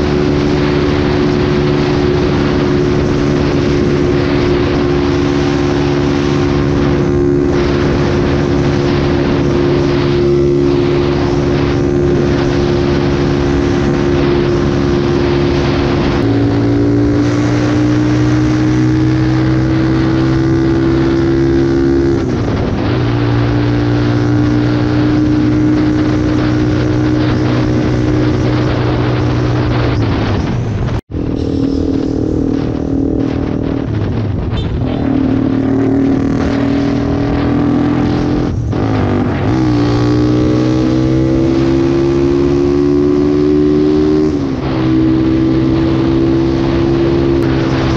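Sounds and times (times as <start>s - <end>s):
motorcycle engine at high revs: 0.0s - 47.9s
wind rushing: 0.0s - 47.9s.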